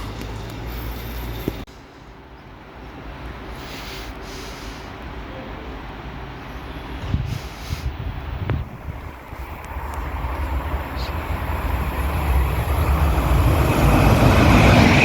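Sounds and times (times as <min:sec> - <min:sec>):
train rumble and rail noise: 0:00.0 - 0:15.0.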